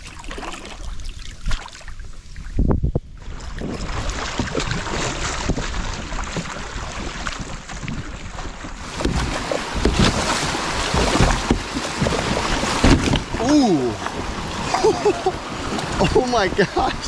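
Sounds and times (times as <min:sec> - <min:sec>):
wind buffeting microphone: 0:00.8 - 0:17.0
water rushing and splashing: 0:03.2 - 0:17.0.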